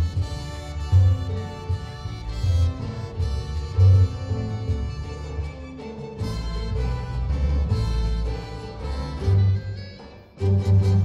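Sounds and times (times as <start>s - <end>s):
deep bass notes: 0.0s - 9.8s, 10.4s - 11.0s
live orchestra playing: 0.0s - 11.0s.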